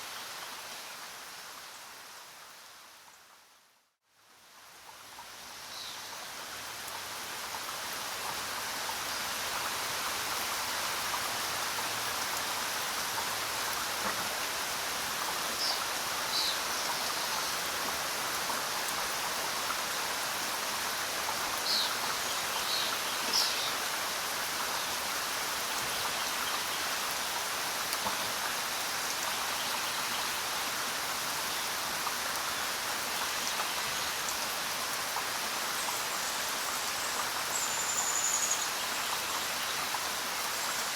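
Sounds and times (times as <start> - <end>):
rain falling in forest: 0.0 - 40.9.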